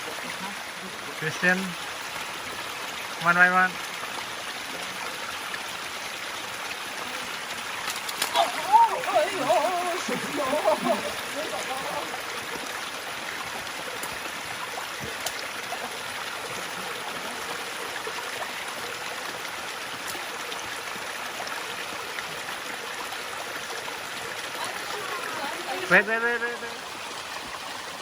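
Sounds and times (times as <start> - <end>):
water rushing: 0.0 - 28.0.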